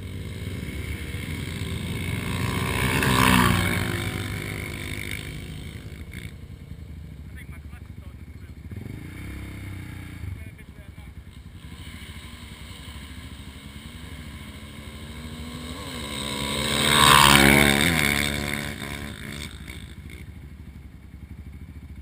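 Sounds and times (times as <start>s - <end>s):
atv engine racing past: 0.0s - 20.4s
atv engine idling: 0.0s - 22.0s.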